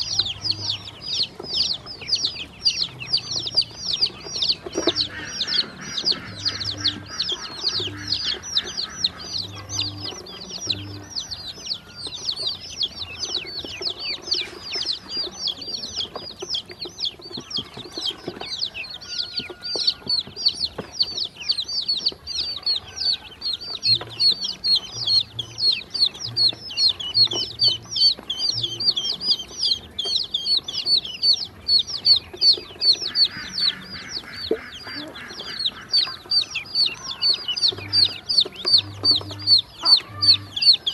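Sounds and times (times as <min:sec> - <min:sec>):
beaks pecking steel bowl: 0:00.0 - 0:40.9
chicks and ducklings peeping: 0:00.0 - 0:40.9.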